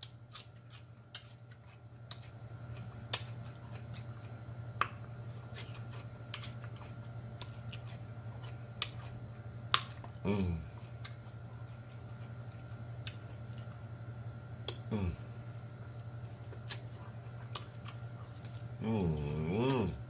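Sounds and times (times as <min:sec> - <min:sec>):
lip smacks and chewing clicks: 0:00.0 - 0:14.0, 0:14.6 - 0:18.8
steady low hum: 0:00.0 - 0:20.0.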